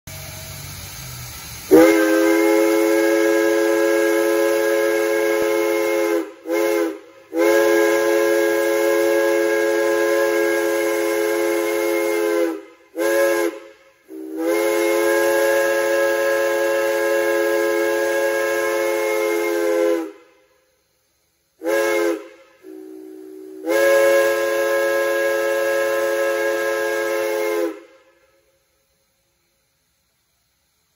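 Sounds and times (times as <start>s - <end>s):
steam whistle blasts: 0.1s - 20.9s, 21.6s - 29.2s.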